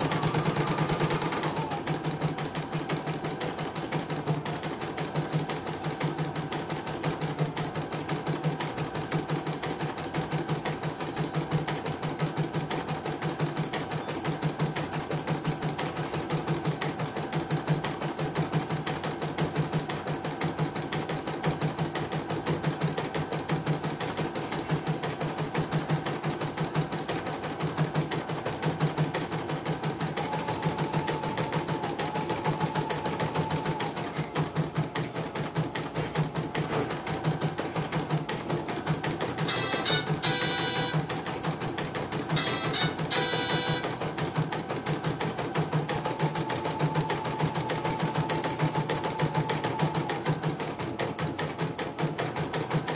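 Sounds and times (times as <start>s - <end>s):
embroidery machine stitching: 0.0s - 52.9s.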